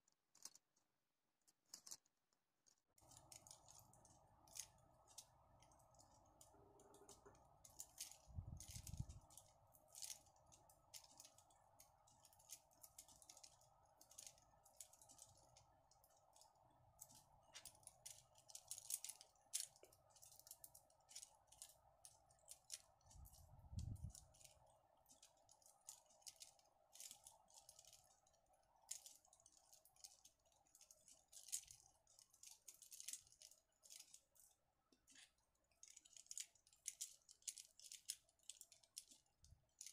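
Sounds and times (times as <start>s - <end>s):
plastic flowers clicking and rustling: 0.0s - 39.9s
faint steady hum: 3.0s - 39.9s.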